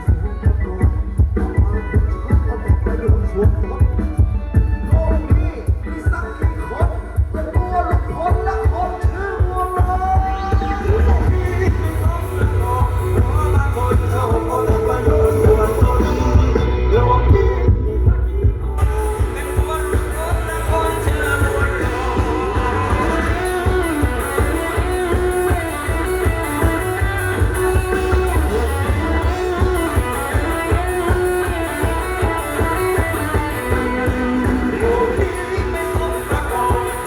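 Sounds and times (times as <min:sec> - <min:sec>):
band music led by guitar: 0:00.0 - 0:37.0
person singing: 0:00.0 - 0:37.0.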